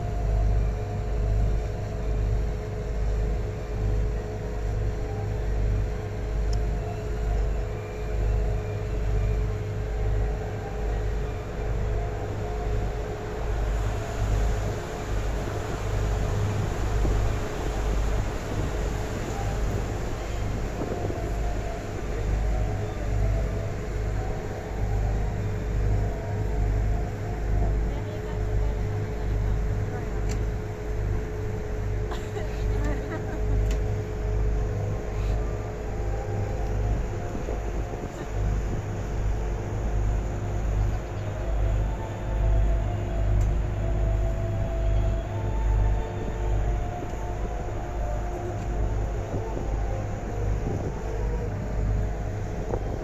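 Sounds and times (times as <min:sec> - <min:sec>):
boat engine rumble: 0:00.0 - 0:53.0
faint even hum: 0:00.0 - 0:53.0.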